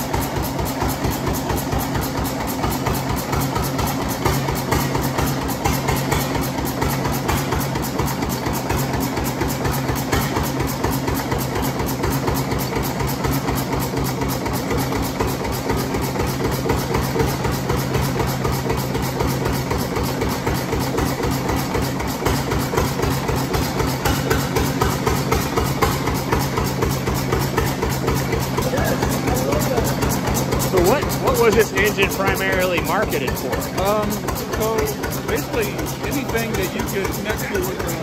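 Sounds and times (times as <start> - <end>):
stationary engine running: 0.0 - 38.0.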